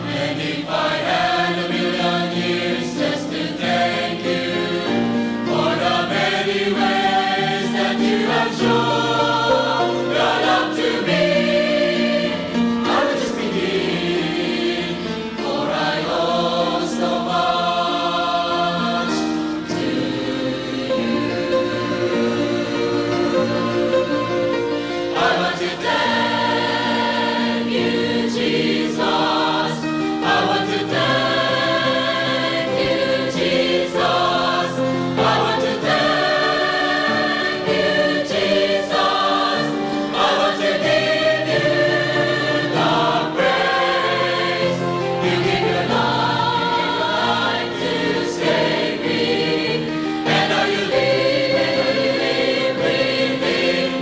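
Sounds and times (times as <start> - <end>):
choir singing slow held notes: 0.0 - 54.0.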